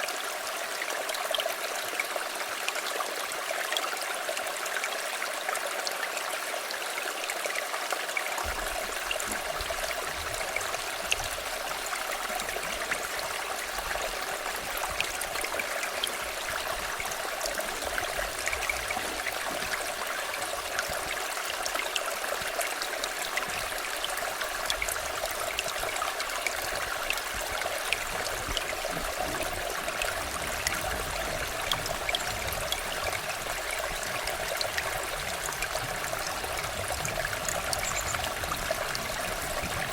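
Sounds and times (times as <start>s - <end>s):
river water rushing: 0.0s - 39.9s
small splashes and trickles: 0.0s - 39.9s.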